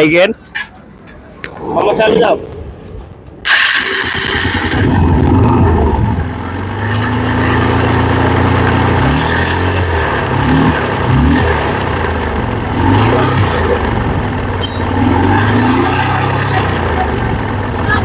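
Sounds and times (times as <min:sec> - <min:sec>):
motorcycle engine idling and revving: 0:03.4 - 0:18.0.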